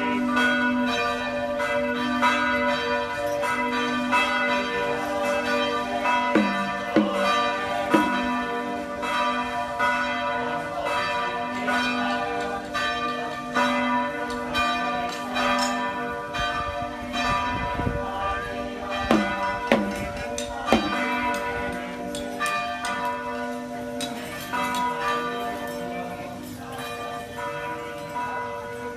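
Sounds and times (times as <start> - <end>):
church bells pealing: 0.0 - 28.9.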